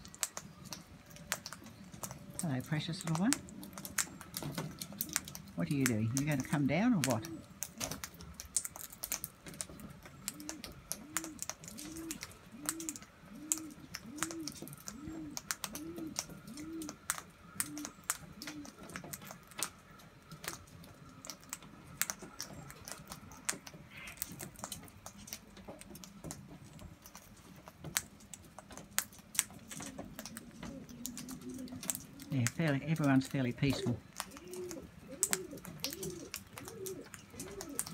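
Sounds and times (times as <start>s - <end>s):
beaks pecking and cracking seed: 0.0s - 37.9s
dove cooing: 0.0s - 37.9s.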